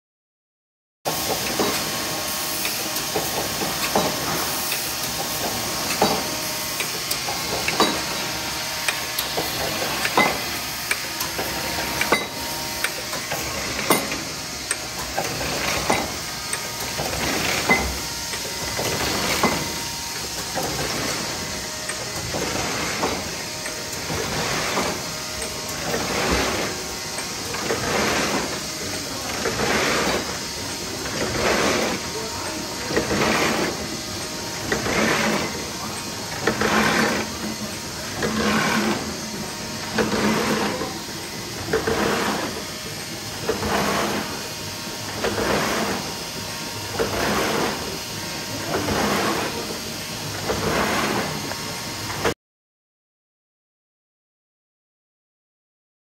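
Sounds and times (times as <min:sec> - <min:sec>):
sharp machine clank: 0:01.1 - 0:51.4
machine hiss and whir: 0:01.1 - 0:52.4.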